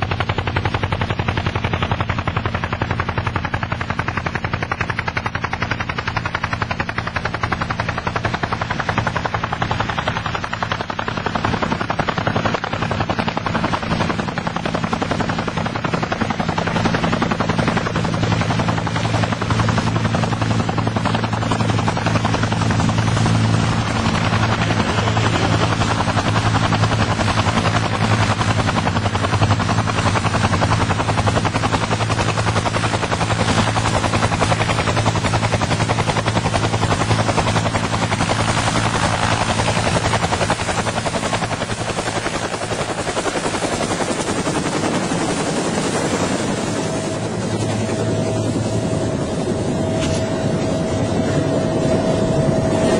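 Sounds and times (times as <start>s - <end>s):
helicopter engine drone: 0.0s - 52.9s
helicopter rotor chopping: 0.0s - 52.9s.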